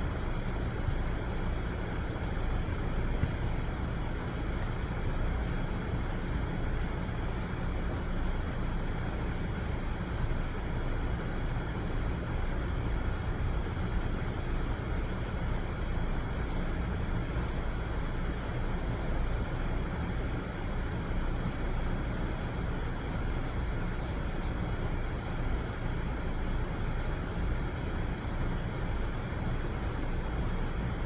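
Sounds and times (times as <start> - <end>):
low rumbling background noise: 0.0 - 31.0.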